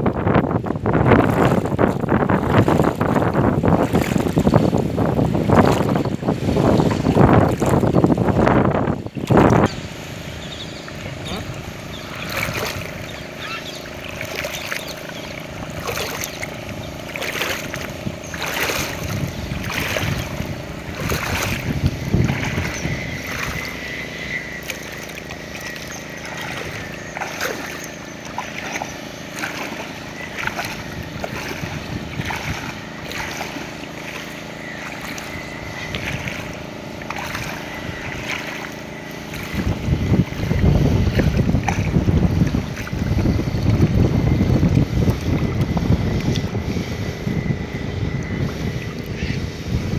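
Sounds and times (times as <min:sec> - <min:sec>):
faint steady hum: 0:00.0 - 0:49.9
water sloshing and splashing: 0:00.0 - 0:49.9
wind buffeting microphone: 0:00.0 - 0:49.9.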